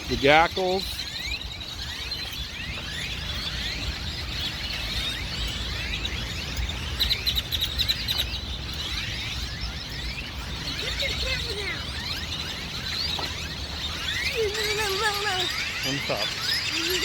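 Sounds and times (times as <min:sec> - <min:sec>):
grackles calling: 0:00.0 - 0:17.0.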